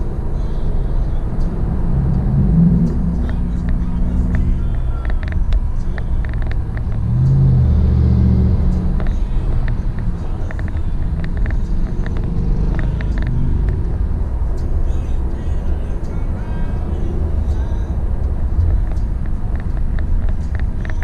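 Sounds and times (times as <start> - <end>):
car interior road rumble: 0.0 - 21.0.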